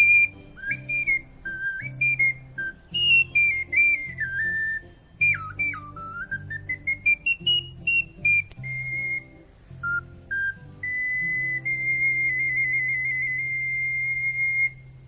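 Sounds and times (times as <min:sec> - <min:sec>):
low sustained backing music: 0:00.0 - 0:15.0
ocarina playing high notes: 0:00.0 - 0:15.0.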